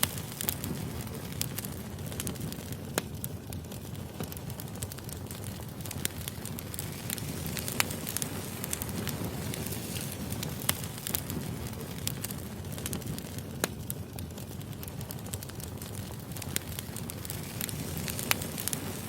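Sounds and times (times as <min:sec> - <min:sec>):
low rush of flame: 0:00.0 - 0:19.0
wood fire crackling and popping: 0:00.0 - 0:19.0.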